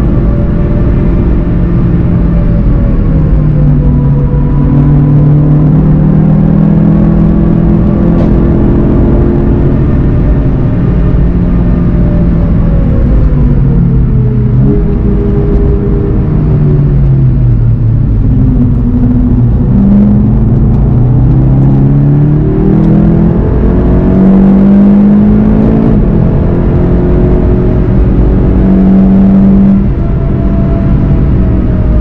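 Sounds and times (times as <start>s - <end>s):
car engine accelerating: 0.0s - 32.0s
tyre and road noise: 0.0s - 32.0s.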